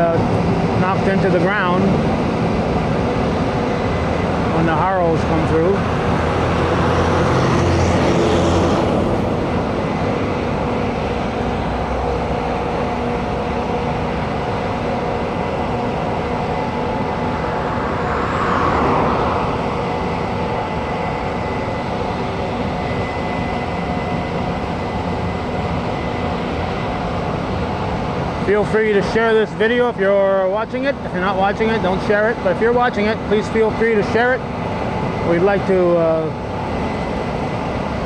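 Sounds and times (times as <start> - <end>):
harvesting machinery engine drone: 0.0 - 38.0.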